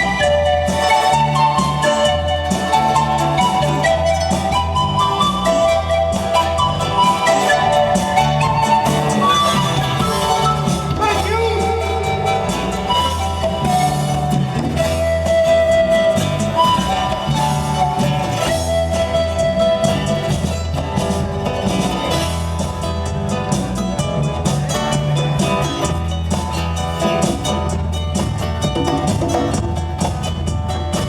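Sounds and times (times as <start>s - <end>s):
live band music: 0.0s - 31.0s.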